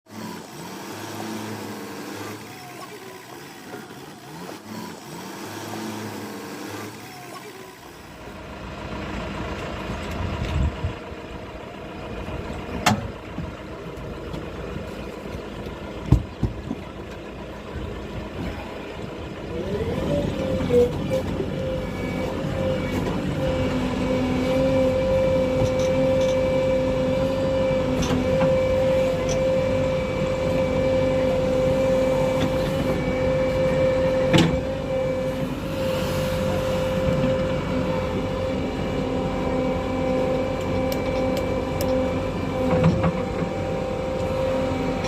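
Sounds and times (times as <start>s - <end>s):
diesel engine running: 0.1s - 45.0s.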